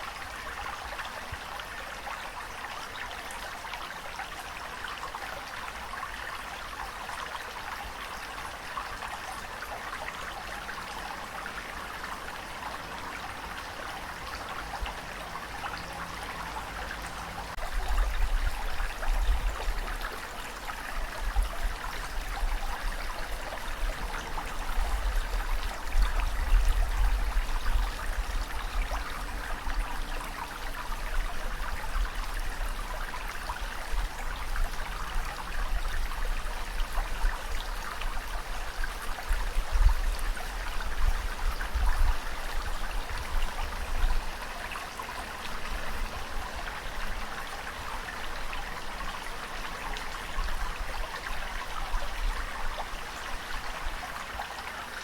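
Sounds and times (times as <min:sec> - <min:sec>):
water rushing and splashing: 0:00.0 - 0:55.0.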